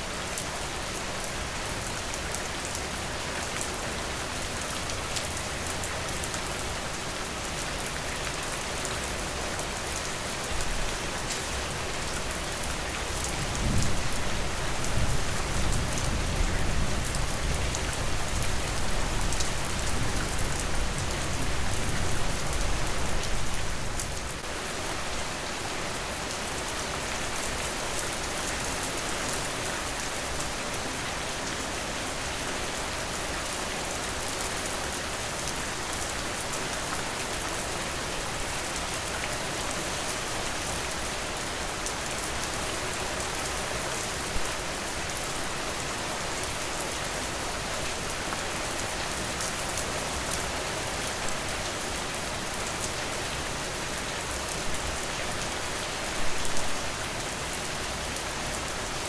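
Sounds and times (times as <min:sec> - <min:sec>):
rain falling on a porch: 0:00.0 - 0:59.0.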